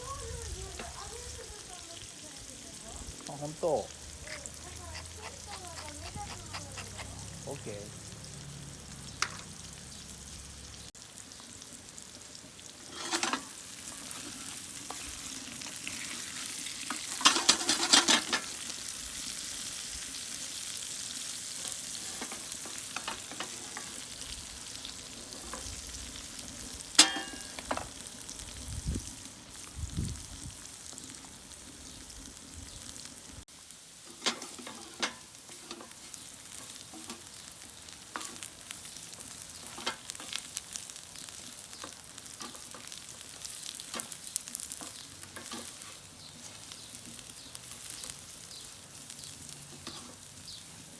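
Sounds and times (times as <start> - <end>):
food sizzling in a frying pan: 0.0 - 50.9.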